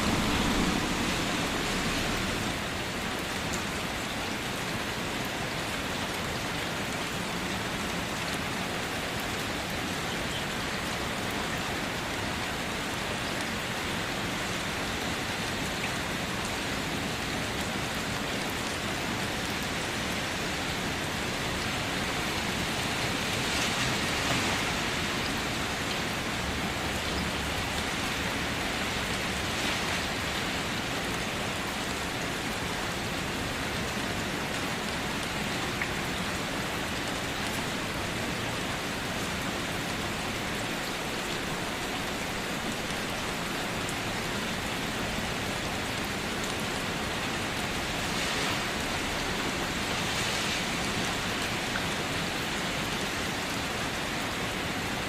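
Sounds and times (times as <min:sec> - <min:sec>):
rain on a car: 0:00.0 - 0:55.0.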